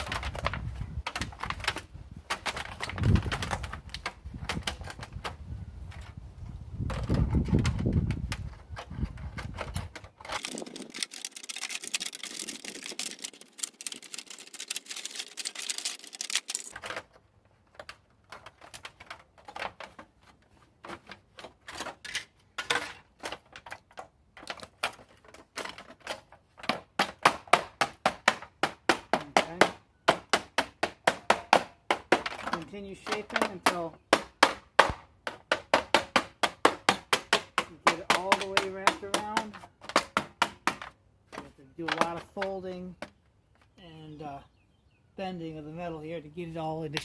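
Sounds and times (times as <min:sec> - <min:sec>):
sheet metal clicking and crinkling: 0:00.0 - 0:06.2, 0:06.8 - 0:42.6.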